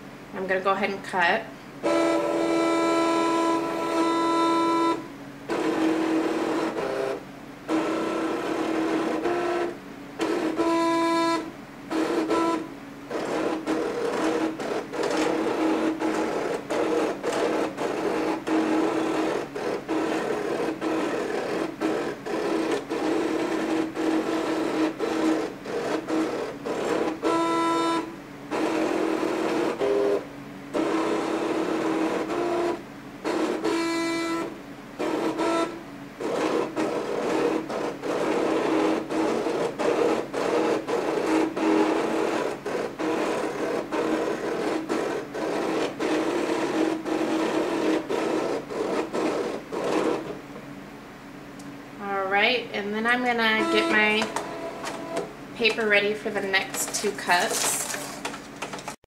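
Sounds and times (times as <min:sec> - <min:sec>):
high-pitched motor whine: 0:01.8 - 0:49.0, 0:53.2 - 0:58.0
cutting machine motors whirring: 0:01.8 - 0:50.4, 0:52.4 - 0:59.0.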